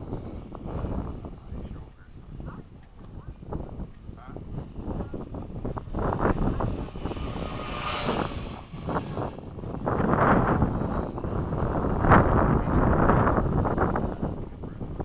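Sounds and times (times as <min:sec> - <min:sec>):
model plane propeller whine: 0:00.0 - 0:15.0
wind buffeting microphone: 0:00.0 - 0:15.0.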